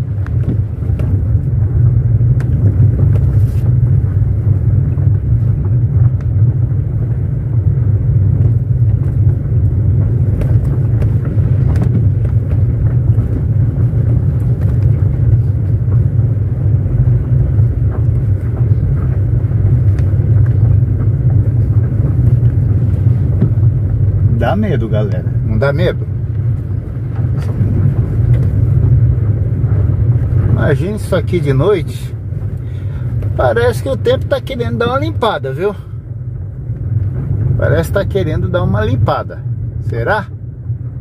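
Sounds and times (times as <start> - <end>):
tyres and engine rumbling: 0.0 - 41.0.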